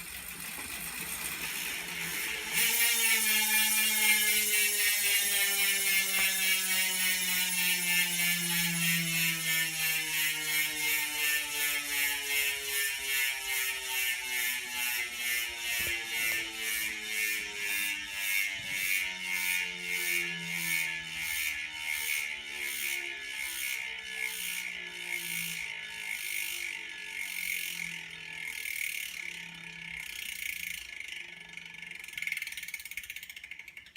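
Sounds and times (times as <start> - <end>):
bicycle hub ratcheting buzz: 0.0 - 33.9.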